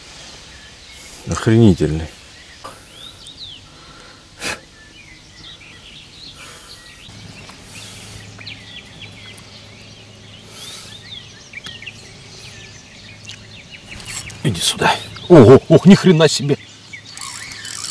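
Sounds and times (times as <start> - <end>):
low steady hum: 0.0 - 17.9
songbirds chirping: 0.0 - 17.9.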